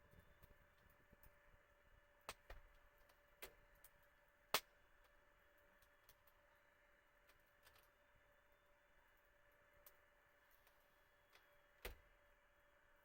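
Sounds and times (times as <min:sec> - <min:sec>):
campfire wood crackling: 0:00.0 - 0:12.4.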